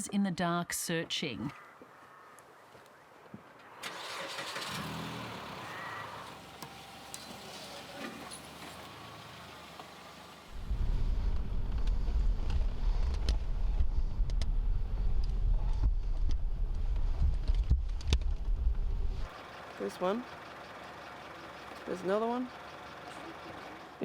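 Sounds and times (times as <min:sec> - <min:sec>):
car driving rumble: 0:03.9 - 0:24.0.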